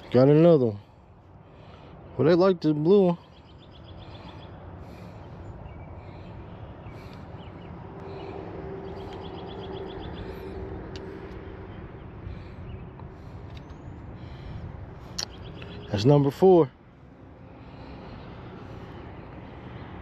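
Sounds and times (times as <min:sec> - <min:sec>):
distant road traffic rumble: 0:00.0 - 0:20.0
faint engine hum: 0:00.0 - 0:20.0.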